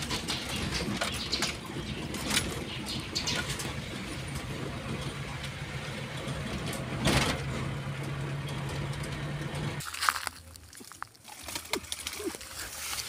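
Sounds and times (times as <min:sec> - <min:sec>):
car engine hum: 0:00.0 - 0:10.6
small rattles: 0:00.0 - 0:13.0
tyre and road noise: 0:00.0 - 0:13.0.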